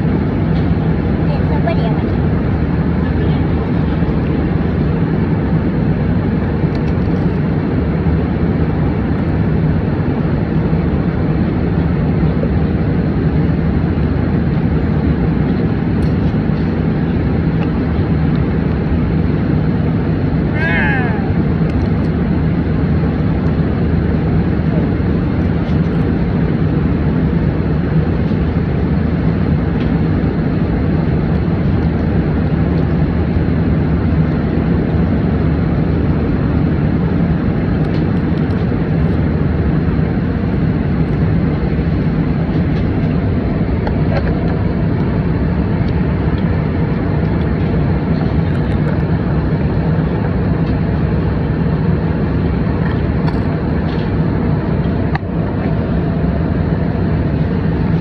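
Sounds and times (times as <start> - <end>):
airliner cabin engine noise: 0.0 - 58.0.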